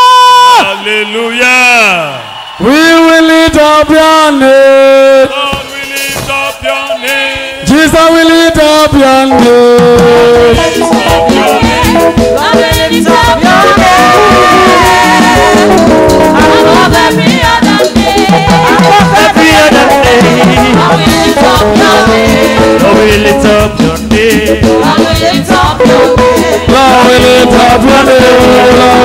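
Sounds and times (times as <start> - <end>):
worship song with voices singing: 2.6 - 29.0.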